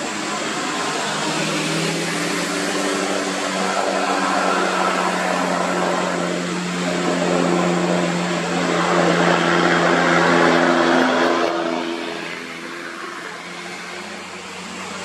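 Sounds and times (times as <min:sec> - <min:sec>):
car passing: 0:00.0 - 0:15.0
truck diesel engine droning: 0:00.0 - 0:15.0.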